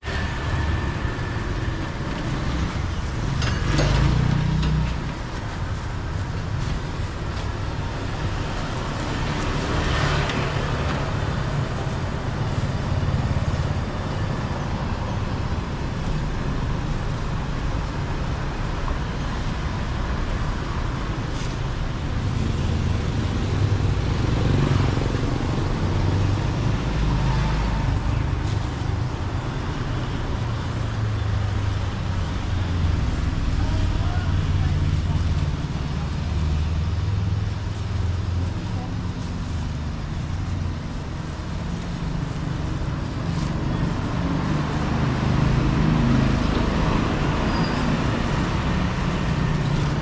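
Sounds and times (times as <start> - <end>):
street traffic rumble: 0.0 - 50.0
vehicles passing: 0.0 - 50.0.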